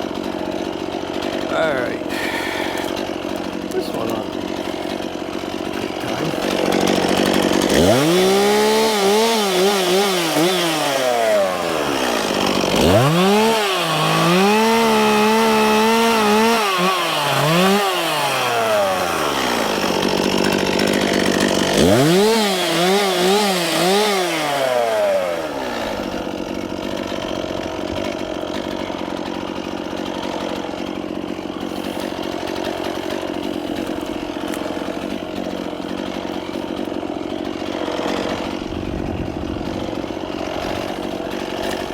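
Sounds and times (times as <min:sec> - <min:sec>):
chainsaw cutting wood: 0:00.0 - 0:41.9
chainsaw idling: 0:00.0 - 0:41.9.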